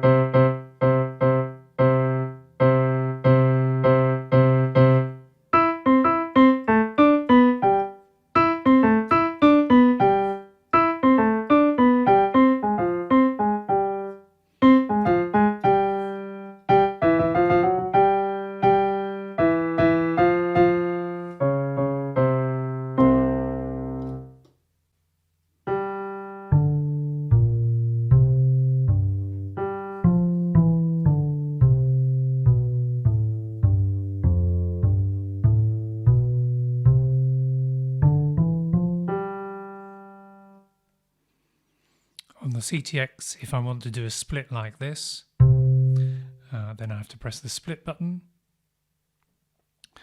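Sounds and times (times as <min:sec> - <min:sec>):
low piano chord: 0:00.0 - 0:24.5, 0:25.6 - 0:40.7, 0:45.4 - 0:46.3
piano melodic phrases: 0:00.0 - 0:24.7, 0:25.4 - 0:41.1, 0:45.3 - 0:46.6.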